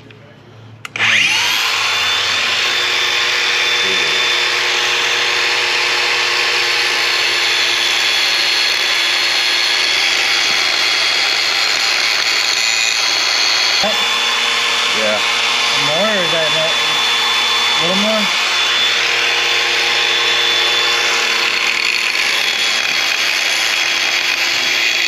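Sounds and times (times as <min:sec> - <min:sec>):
electric grinder grinding metal: 0:00.9 - 0:25.0.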